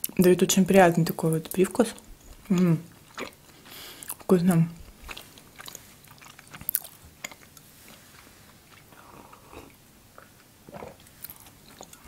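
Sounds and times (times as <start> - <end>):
chewing crunchy brittle: 1.0 - 12.0.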